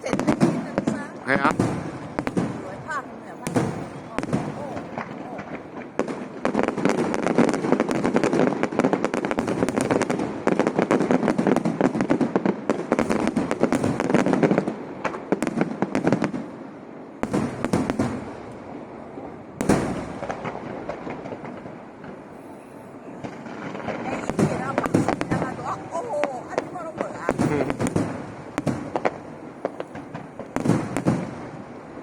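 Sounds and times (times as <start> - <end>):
fireworks bangs: 0.0 - 32.0
fireworks crackling: 0.0 - 32.0.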